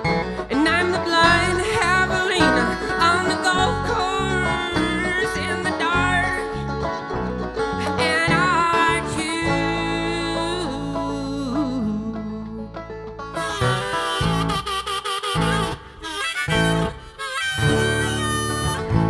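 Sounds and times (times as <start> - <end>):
bass line: 0.0 - 19.0
folk band playing country tune: 0.0 - 19.0.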